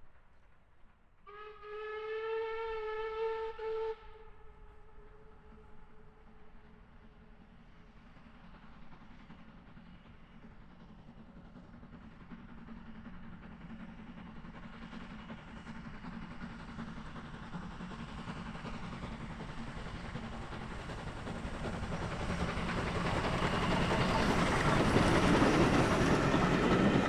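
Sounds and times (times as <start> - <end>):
rail noise: 0.0 - 27.0
steam train rumbling: 0.0 - 27.0.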